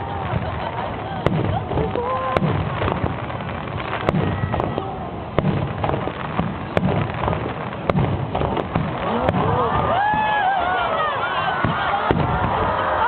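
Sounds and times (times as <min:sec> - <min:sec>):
fireworks bangs: 0:00.0 - 0:13.0
murmur of crowd voices: 0:00.0 - 0:13.0.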